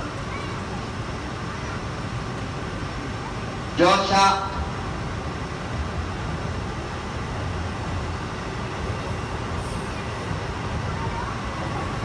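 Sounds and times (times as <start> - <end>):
standing train humming: 0.0 - 12.0.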